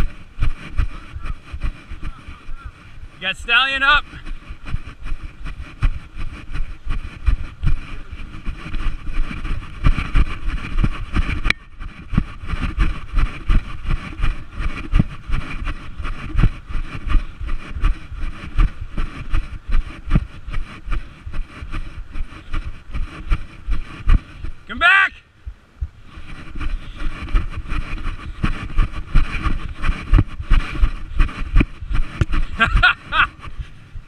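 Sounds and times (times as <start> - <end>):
wind buffeting microphone: 0.0 - 24.7, 25.3 - 34.0.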